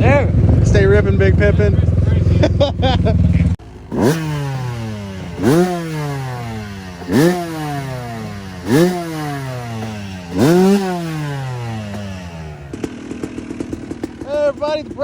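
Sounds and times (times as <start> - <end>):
dirt bike engine revving: 0.0 - 14.3.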